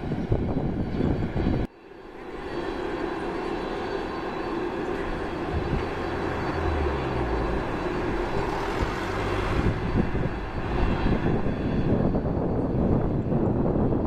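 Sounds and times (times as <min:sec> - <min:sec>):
jet engines running at low power: 0:00.0 - 0:14.0.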